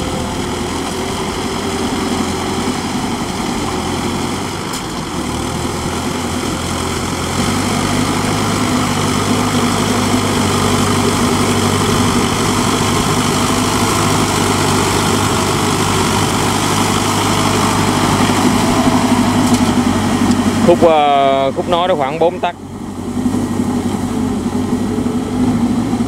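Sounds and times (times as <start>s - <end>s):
diesel tiller engine droning: 0.0s - 26.0s.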